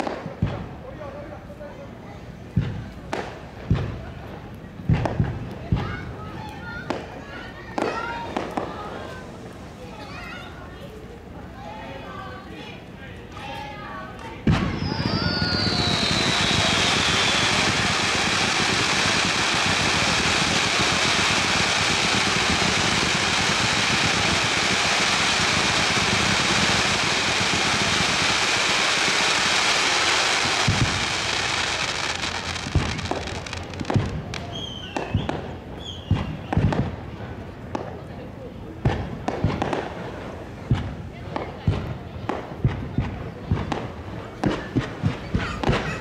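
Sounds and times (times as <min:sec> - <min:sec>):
fireworks bursting and crackling: 0:00.0 - 0:01.4, 0:02.3 - 0:12.4, 0:13.3 - 0:46.0.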